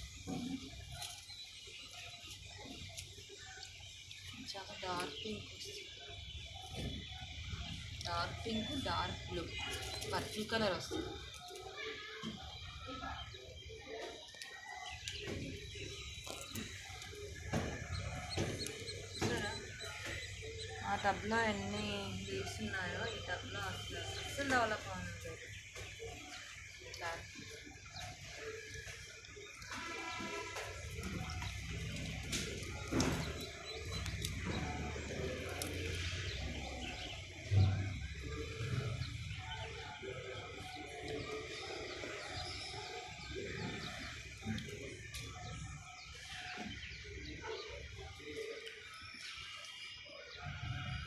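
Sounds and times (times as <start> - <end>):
faint bird chirps: 0.0 - 51.0.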